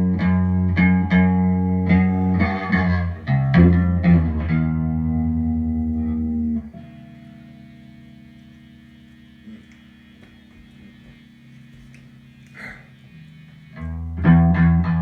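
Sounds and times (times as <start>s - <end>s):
guitar playing a riff: 0.0s - 15.0s.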